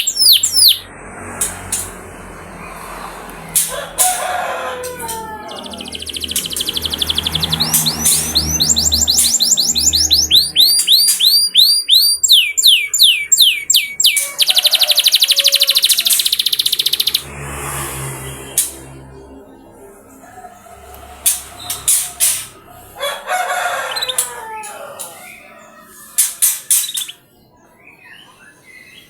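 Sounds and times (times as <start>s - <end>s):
canary singing: 0.0s - 0.9s, 1.6s - 17.3s, 18.9s - 29.0s.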